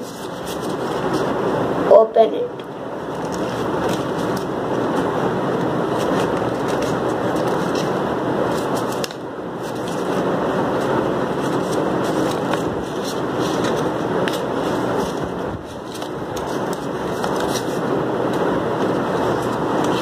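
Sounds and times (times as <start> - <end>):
paper folding and crackling: 0.0 - 1.4, 3.0 - 20.0
loud steady background noise: 0.0 - 20.0.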